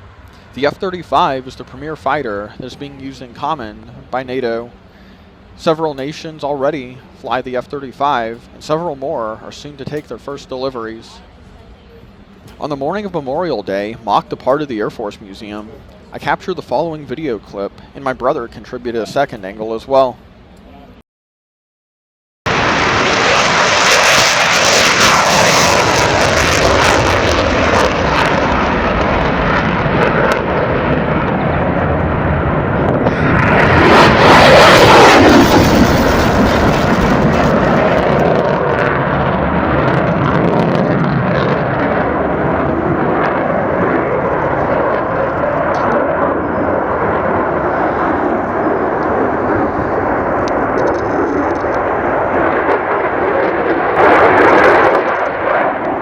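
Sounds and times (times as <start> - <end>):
jet engine roaring: 0.0 - 20.4, 22.5 - 56.0.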